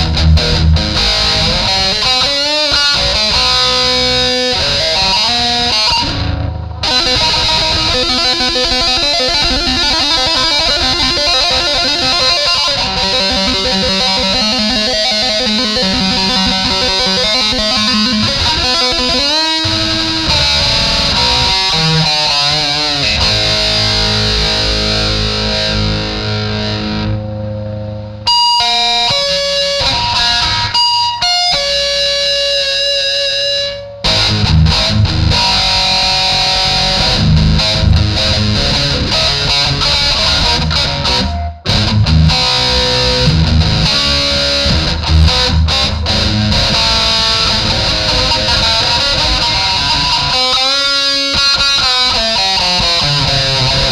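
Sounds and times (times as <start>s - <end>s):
electric guitar with bent notes: 0.0s - 53.9s.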